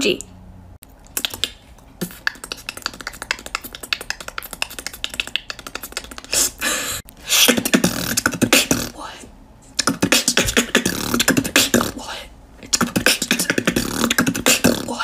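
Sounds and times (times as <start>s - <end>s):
beatboxing clicks: 1.0s - 6.6s, 7.4s - 9.0s, 9.7s - 15.0s
hissing beatbox sounds: 1.1s - 15.0s.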